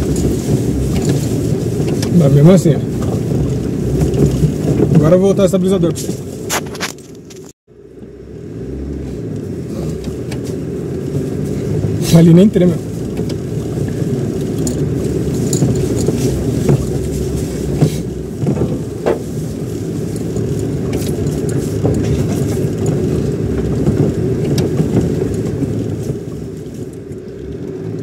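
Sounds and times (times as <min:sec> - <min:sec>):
car rattles and knocks: 0:00.0 - 0:08.1, 0:09.6 - 0:28.0
engine and tyres rumbling: 0:00.0 - 0:28.0.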